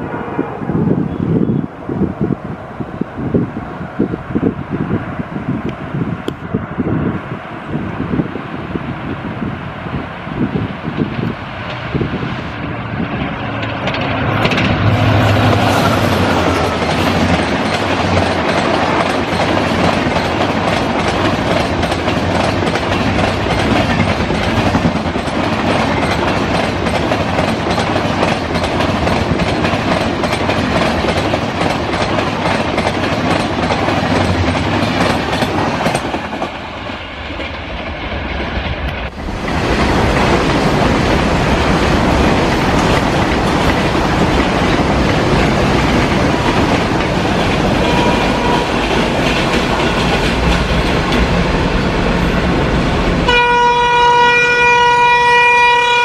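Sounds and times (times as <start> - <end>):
train passing at speed: 0.0 - 56.0.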